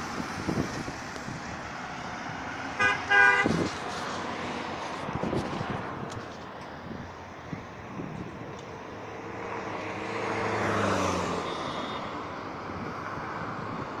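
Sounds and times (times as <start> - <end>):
vehicle passing close by: 0.0 - 7.1, 7.8 - 14.0
traffic hum: 0.0 - 14.0.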